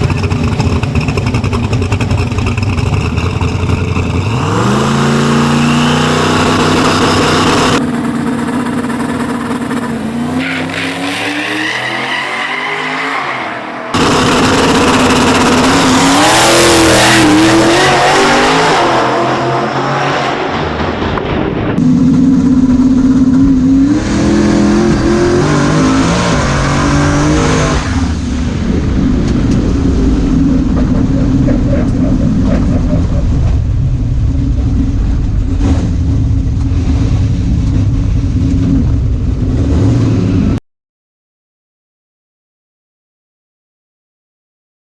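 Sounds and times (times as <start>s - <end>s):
truck engine accelerating: 0.0s - 40.6s.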